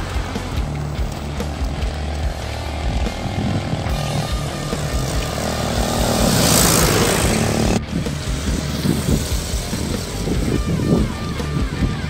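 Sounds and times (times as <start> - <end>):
large truck passing: 0.0 - 12.0.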